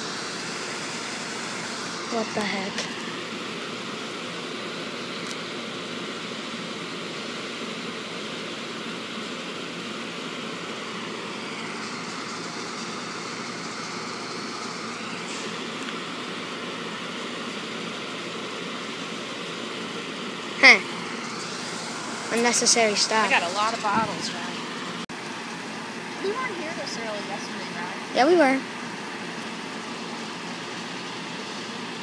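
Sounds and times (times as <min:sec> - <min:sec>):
train equipment hum and hiss: 0:00.0 - 0:32.0.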